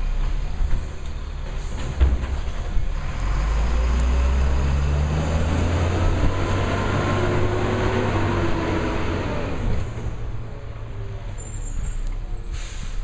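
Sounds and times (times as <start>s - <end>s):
garbage truck engine droning: 0.0s - 12.0s.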